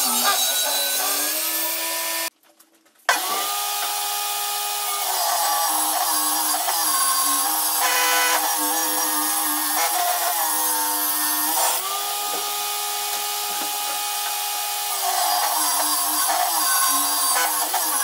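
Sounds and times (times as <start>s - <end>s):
table saw cutting wood: 0.0s - 2.3s, 3.1s - 18.0s.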